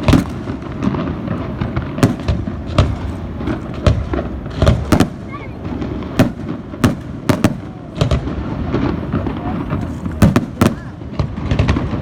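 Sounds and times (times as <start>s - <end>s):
background murmur: 0.0s - 12.0s
fireworks banging: 0.0s - 12.0s.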